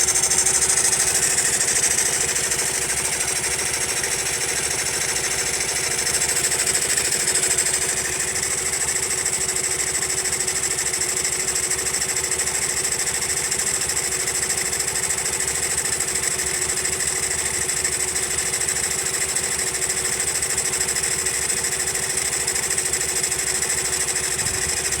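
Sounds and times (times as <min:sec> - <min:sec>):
motorcycle engine running: 0:00.0 - 0:25.0
rapid mechanical knocking: 0:00.0 - 0:25.0.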